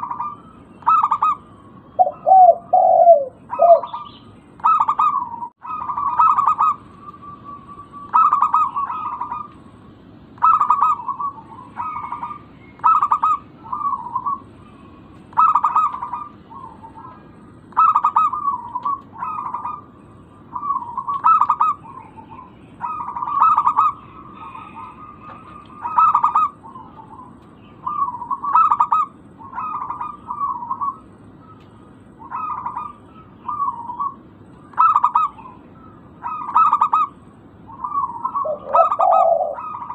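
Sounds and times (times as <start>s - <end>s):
dove cooing: 0.0s - 9.6s, 10.4s - 31.6s, 32.2s - 39.9s
low background hum: 0.0s - 39.9s.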